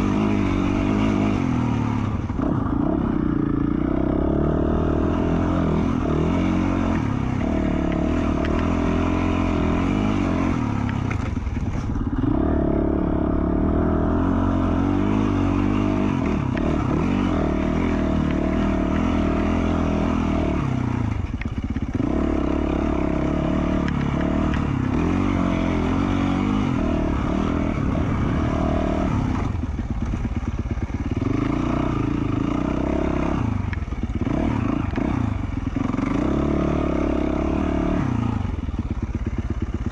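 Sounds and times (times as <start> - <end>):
motorcycle engine revving under load: 0.0 - 39.9.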